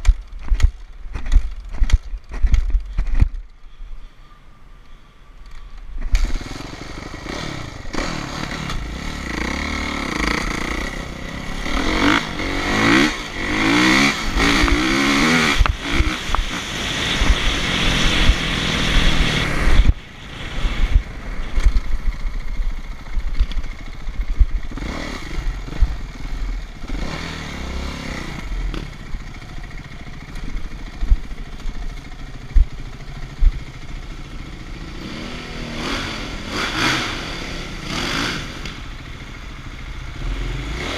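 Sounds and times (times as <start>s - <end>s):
dirt bike engines revving: 6.1s - 40.9s.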